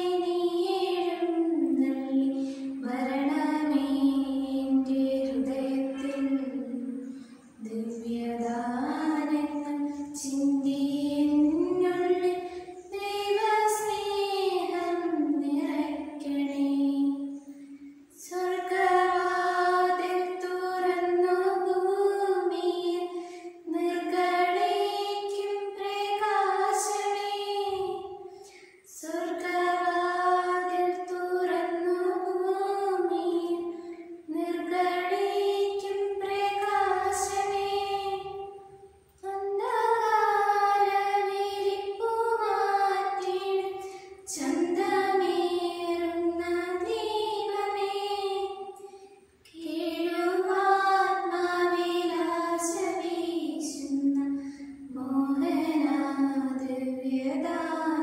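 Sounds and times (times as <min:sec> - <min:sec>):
girls singing a prayer song: 0:00.0 - 0:58.0.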